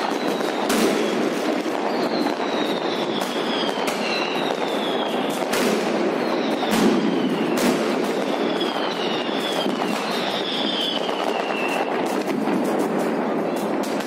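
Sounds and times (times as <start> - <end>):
fireworks crackling and rumbling: 0.0 - 14.0
high falling firework whistles: 0.0 - 14.0
sharp firework bangs: 0.0 - 14.0.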